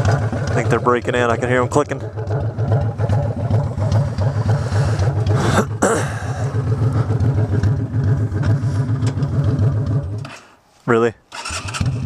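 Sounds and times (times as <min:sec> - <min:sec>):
exhaust pipes ticking: 0:00.0 - 0:10.5
motorcycle engine running: 0:00.0 - 0:10.5, 0:11.4 - 0:12.0.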